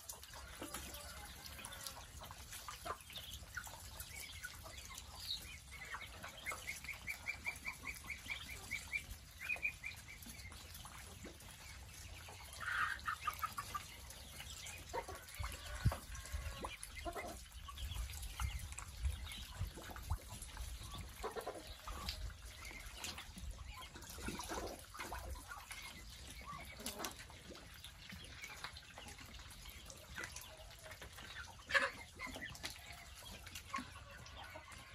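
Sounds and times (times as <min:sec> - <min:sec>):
chickens clucking: 0:00.0 - 0:34.9
ducklings peeping: 0:00.0 - 0:34.9.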